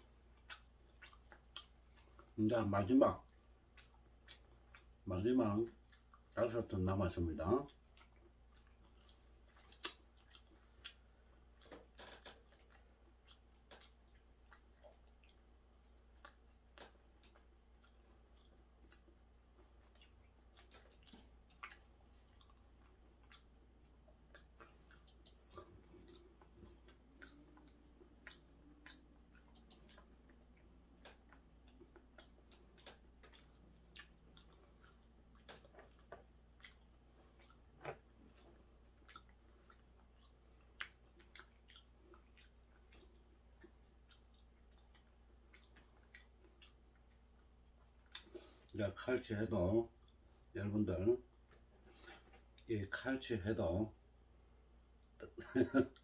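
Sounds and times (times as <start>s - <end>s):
faint chewing: 0.0s - 50.6s, 51.2s - 53.0s
low steady hum: 0.0s - 56.0s.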